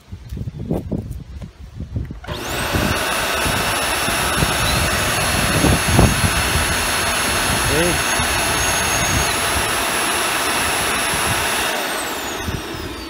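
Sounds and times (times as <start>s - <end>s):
vacuum cleaner motor whine: 2.2s - 13.0s.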